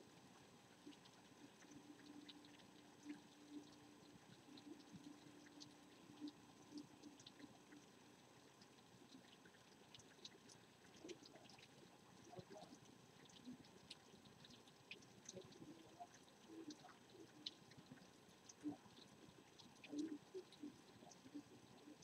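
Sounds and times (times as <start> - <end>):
faint rain dripping: 0.0 - 22.0.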